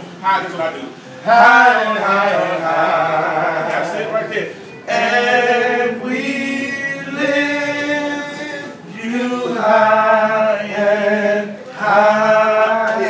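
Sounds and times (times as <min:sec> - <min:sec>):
men singing a cappella: 0:01.1 - 0:13.0.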